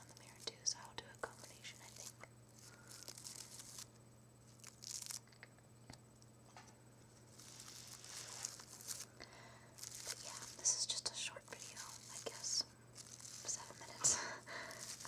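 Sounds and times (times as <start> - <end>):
crinkly rustling of petals: 0.0 - 5.4, 7.1 - 15.0.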